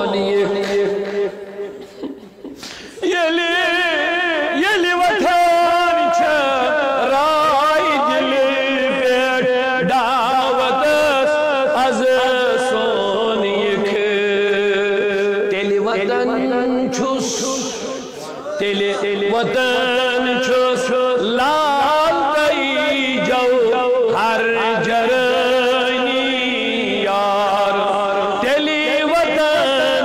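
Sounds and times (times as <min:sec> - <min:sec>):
man singing with vibrato: 0:00.0 - 0:30.0.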